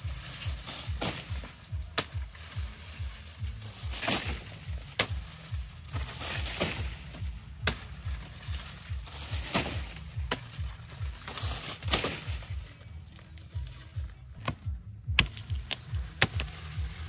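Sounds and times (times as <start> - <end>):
machete chopping sugarcane: 0.0 - 12.6, 14.4 - 17.0
background music with low beat: 0.0 - 17.0.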